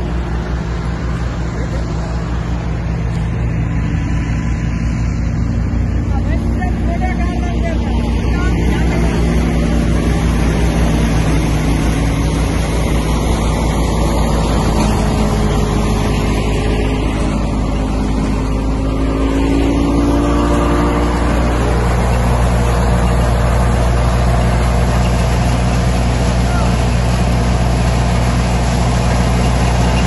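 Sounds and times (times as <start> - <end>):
tractor diesel engine running: 0.0 - 30.0
wheat thresher running: 0.0 - 30.0.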